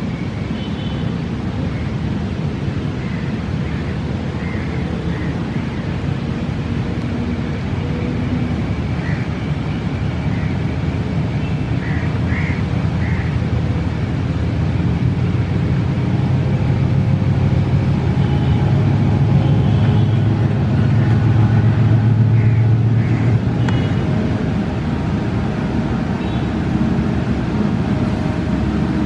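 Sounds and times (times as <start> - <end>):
locomotive engine drone: 0.0 - 29.0
wash of water from wheels: 0.0 - 29.0.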